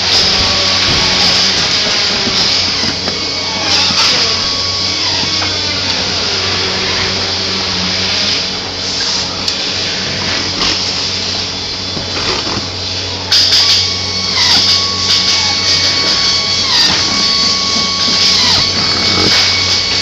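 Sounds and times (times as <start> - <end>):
machinery low hum: 0.0 - 20.0.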